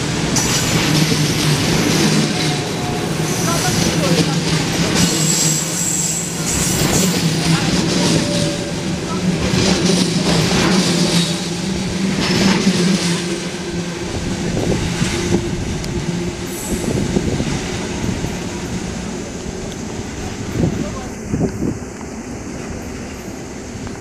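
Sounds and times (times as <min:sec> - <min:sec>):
train coaches rumbling past: 0:00.0 - 0:24.0.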